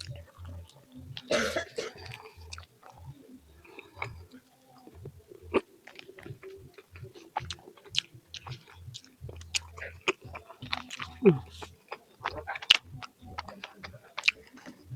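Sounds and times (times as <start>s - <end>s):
person chewing with wet clicks: 0.0s - 14.9s.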